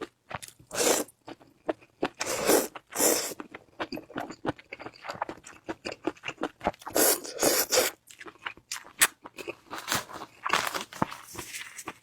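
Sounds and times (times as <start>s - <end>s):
crunchy chewing: 1.9s - 12.0s.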